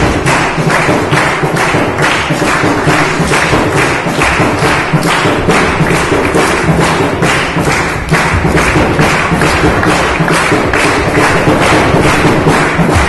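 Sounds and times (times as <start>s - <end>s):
frame drum beating: 0.0s - 13.0s
hands clapping: 0.0s - 13.0s.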